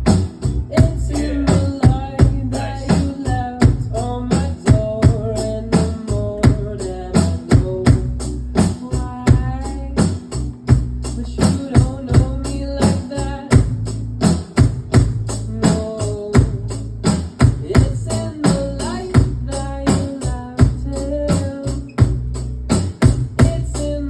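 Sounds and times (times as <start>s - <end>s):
drum kit hits: 0.0s - 24.0s
pop-rock song with singing: 0.0s - 24.0s.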